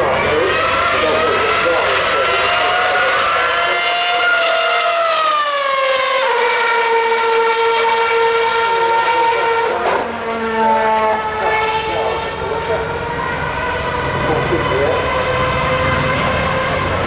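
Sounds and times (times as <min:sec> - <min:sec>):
racing car engine high whine: 0:00.0 - 0:17.0.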